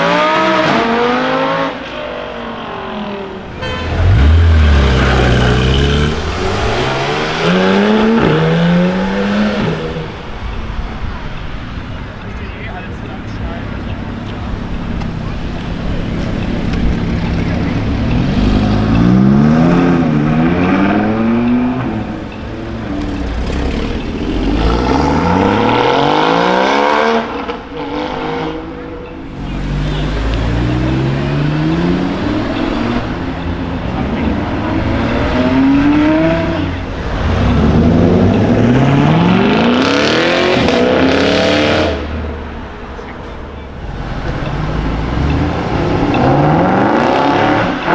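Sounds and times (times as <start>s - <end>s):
car engines accelerating hard: 0.0s - 47.9s.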